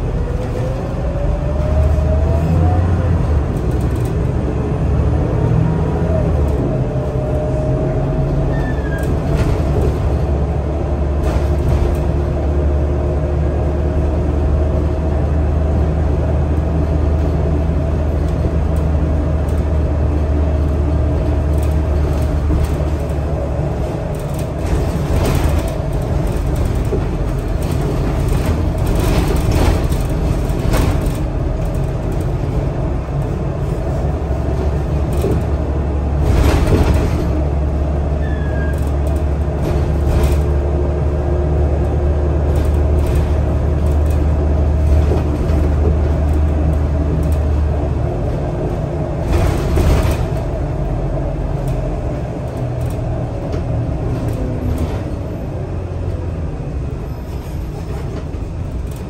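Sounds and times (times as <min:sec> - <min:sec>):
bus body rattling: 0:00.0 - 0:59.0
bus engine droning: 0:00.0 - 0:59.0.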